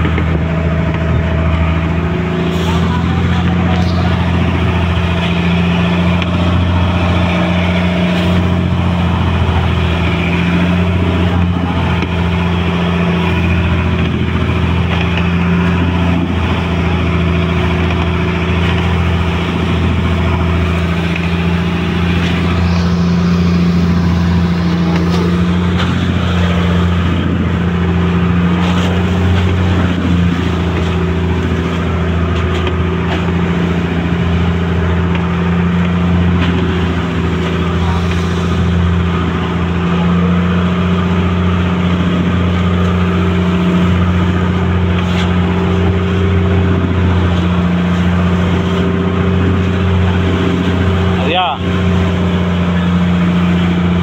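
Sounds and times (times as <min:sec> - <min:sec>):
boat engine running steadily: 0:00.0 - 0:54.0.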